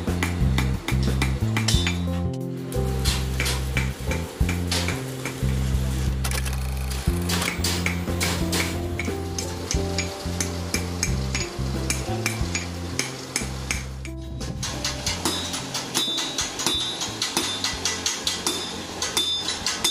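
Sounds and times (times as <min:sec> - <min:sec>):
hammer striking steel anvil: 0:00.0 - 0:02.2, 0:03.0 - 0:05.6, 0:07.2 - 0:19.9
background music: 0:00.0 - 0:19.9.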